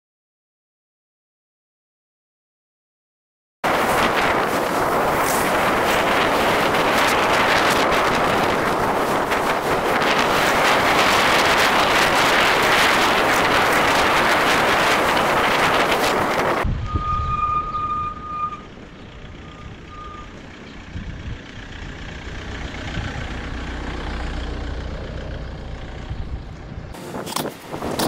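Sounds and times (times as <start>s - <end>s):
wind rushing over microphone: 3.6s - 20.0s, 20.8s - 28.0s
low rumble: 3.7s - 28.0s.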